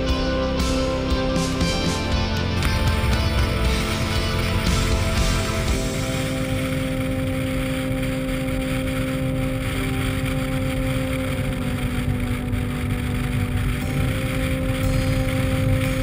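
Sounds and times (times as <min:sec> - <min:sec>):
motorcycle engine running: 0:00.0 - 0:16.0
road rumble: 0:00.0 - 0:16.0.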